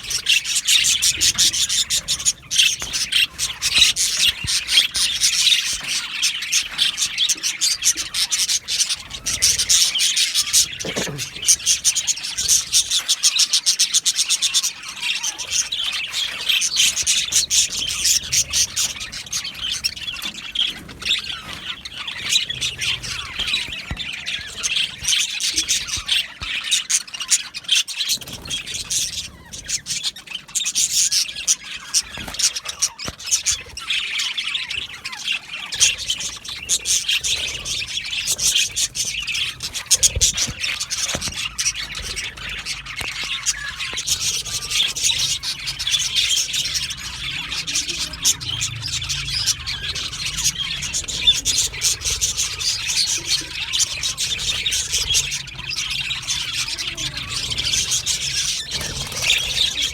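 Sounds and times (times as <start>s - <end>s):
flock of budgerigars chattering: 0.0s - 59.9s.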